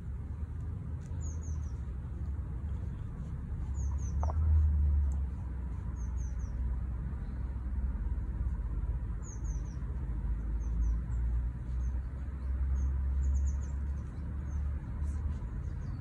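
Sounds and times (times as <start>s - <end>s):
steady low rumble: 0.0s - 16.0s
small bird chirping: 1.0s - 7.5s, 9.2s - 16.0s.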